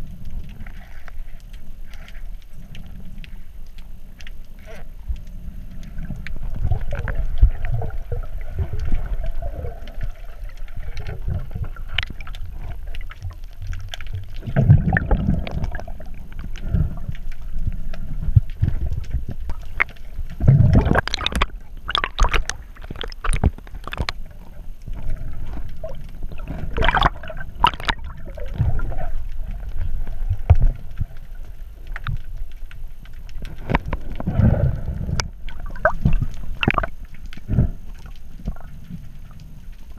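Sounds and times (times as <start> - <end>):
underwater rumbling and bubbling: 0.0 - 39.9
water sloshing and gurgling: 0.0 - 39.9.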